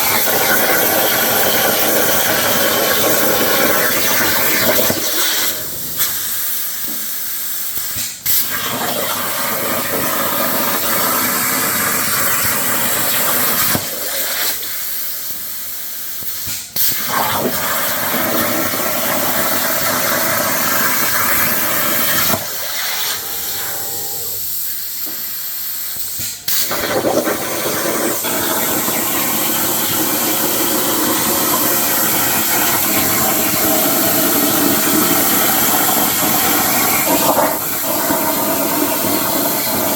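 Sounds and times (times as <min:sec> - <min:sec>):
plasma cutter torch hissing: 0:00.0 - 0:39.9.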